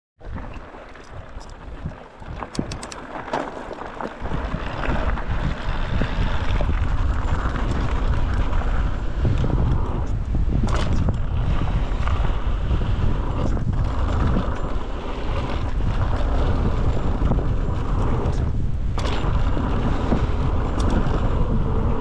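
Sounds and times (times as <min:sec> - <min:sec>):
bike clicks and rattles: 0:00.2 - 0:22.0
bike tyres rolling on gravel: 0:00.2 - 0:22.0
wind buffeting microphone: 0:00.2 - 0:22.0.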